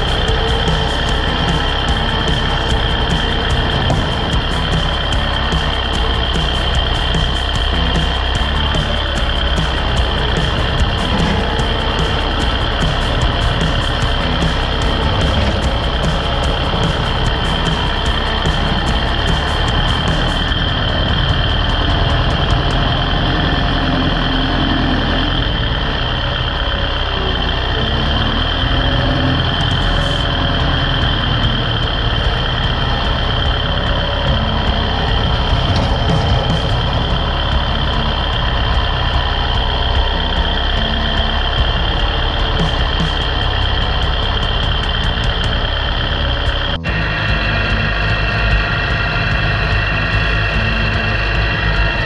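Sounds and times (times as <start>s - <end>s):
high whine: 0.0s - 52.0s
tractor diesel engine running: 0.0s - 52.0s.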